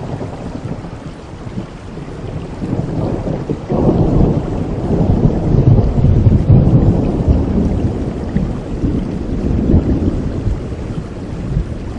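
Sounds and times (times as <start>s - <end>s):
steady rain: 0.0s - 11.9s
thunder rumbling: 0.0s - 11.9s.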